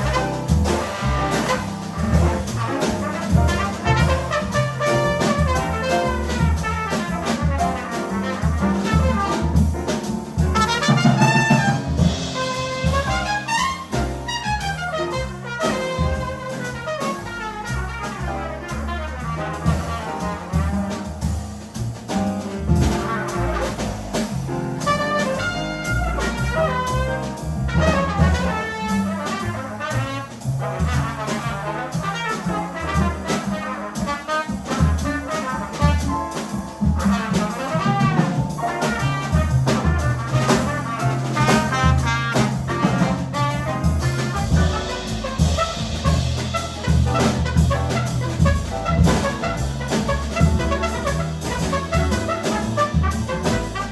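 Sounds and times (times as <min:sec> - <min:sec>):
double bass: 0:00.0 - 0:53.9
drum kit with cymbal strokes: 0:00.0 - 0:53.9
piano: 0:00.0 - 0:53.9
trumpet: 0:00.0 - 0:53.9.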